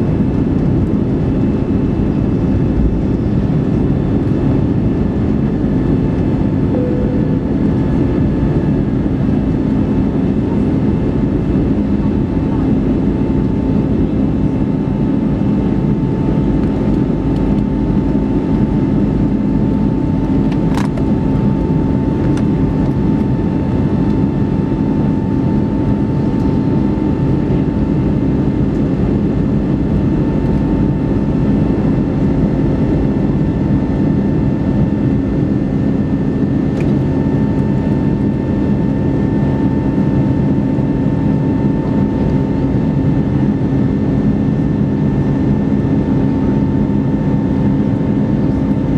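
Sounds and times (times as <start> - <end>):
jet engines low rumble: 0.0 - 48.9.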